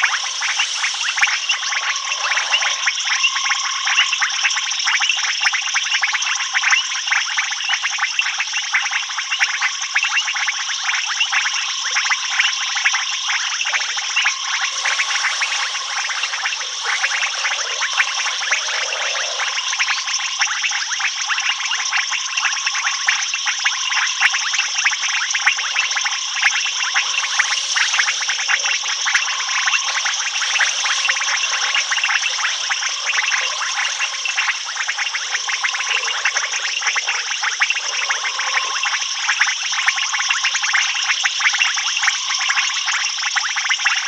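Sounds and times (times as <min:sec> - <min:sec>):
insects and frogs calling: 0:00.0 - 0:44.0.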